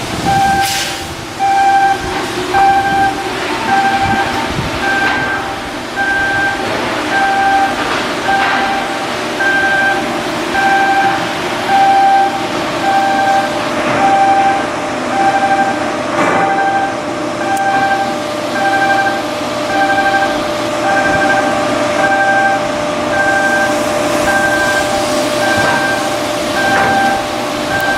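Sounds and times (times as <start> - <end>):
steady mechanical hum: 0.0 - 27.9
electronic warning beeps: 0.2 - 27.9.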